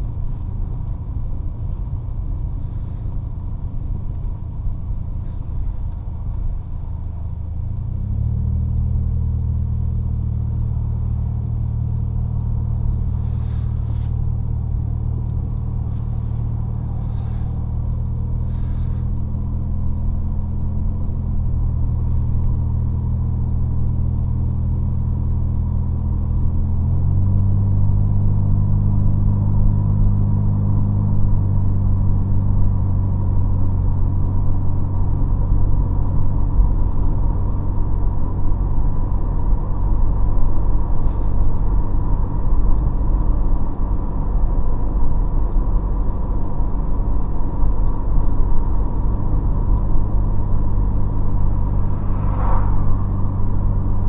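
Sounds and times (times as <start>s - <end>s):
car engine drone: 0.0s - 54.0s
road rumble: 0.0s - 54.0s.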